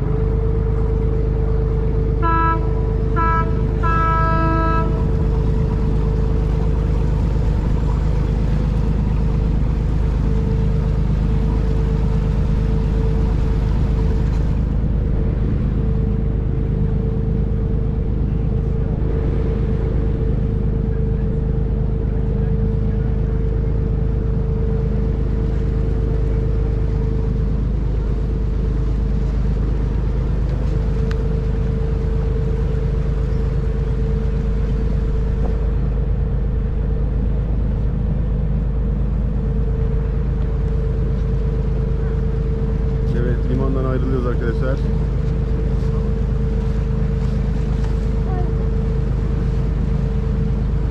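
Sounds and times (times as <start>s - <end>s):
boat engine running: 0.0s - 50.9s.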